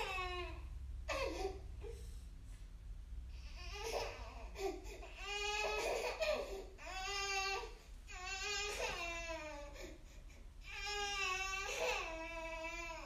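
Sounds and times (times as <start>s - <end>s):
baby crying in broken sobs: 0.0s - 1.6s, 3.5s - 10.0s, 10.6s - 13.0s.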